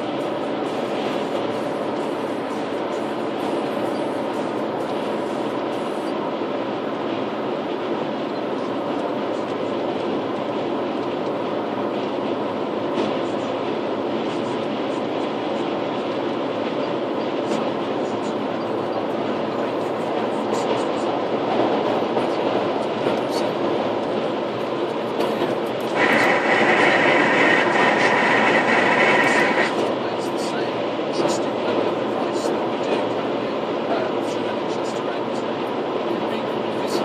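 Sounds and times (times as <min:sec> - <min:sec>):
diesel engine drone: 0:00.0 - 0:37.0
road and tyre noise: 0:00.0 - 0:37.0.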